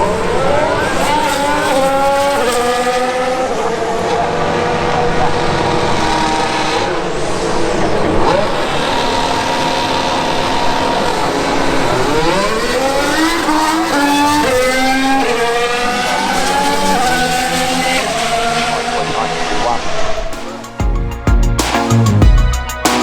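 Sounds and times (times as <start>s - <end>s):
gear upshifts: 0.0s - 20.8s
race car engine accelerating: 0.0s - 20.8s.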